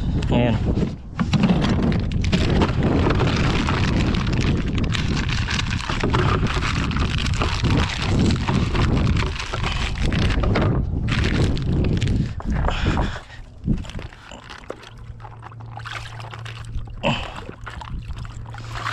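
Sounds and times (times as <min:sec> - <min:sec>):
low handling rumble on microphone: 0:00.0 - 0:18.9
plastic bag crinkling: 0:01.9 - 0:12.6, 0:13.7 - 0:18.9.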